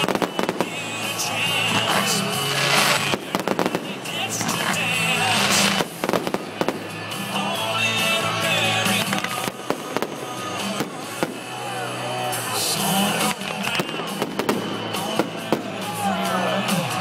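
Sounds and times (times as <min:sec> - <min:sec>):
fireworks bangs and crackling: 0:00.0 - 0:17.0
music: 0:00.0 - 0:17.0.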